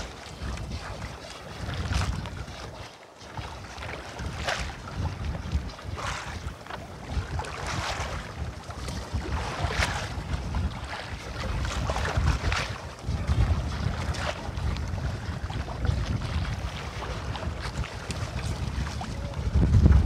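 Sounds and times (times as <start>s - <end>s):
water splashing against boat hull: 0.0s - 20.0s
wind buffeting microphone: 0.0s - 20.0s.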